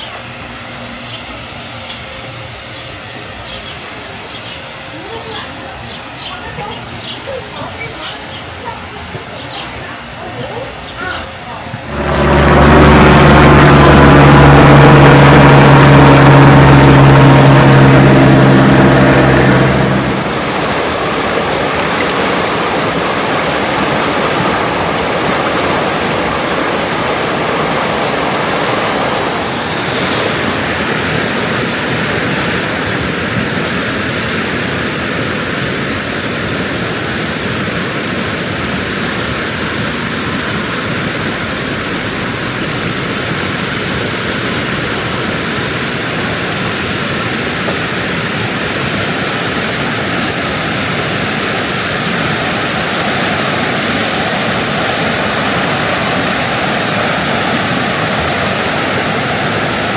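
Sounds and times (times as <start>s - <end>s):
rushing water: 11.1s - 59.9s
vehicle engine humming: 11.5s - 59.9s.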